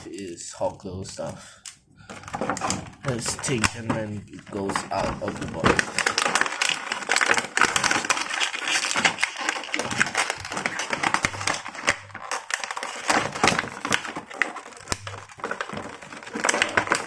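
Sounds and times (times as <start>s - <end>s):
plastic packaging crinkling: 2.1s - 17.0s.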